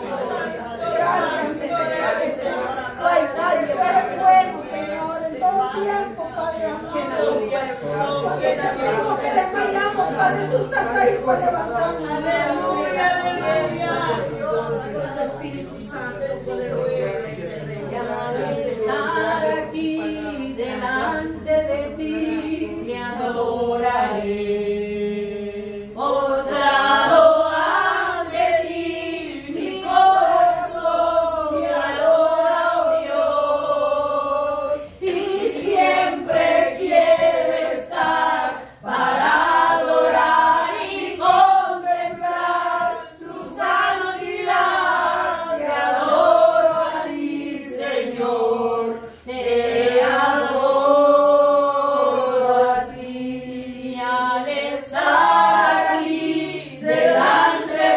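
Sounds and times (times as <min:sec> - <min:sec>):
group of women singing: 0:00.0 - 0:57.9.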